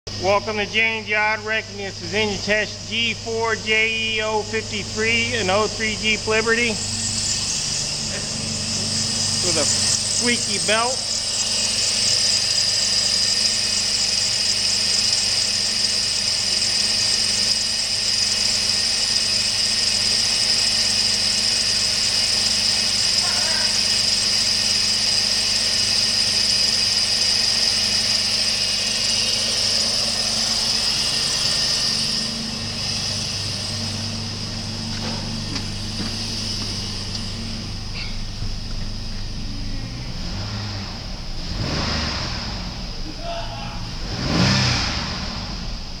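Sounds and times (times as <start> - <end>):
car engine idling: 0.0 - 46.0
drive belt squealing: 0.1 - 45.0.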